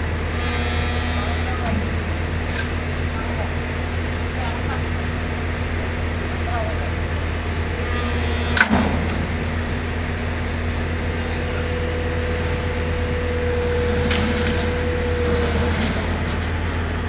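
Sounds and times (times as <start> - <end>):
heavy diesel engine running: 0.0 - 17.0
thin steady whine: 0.0 - 17.0.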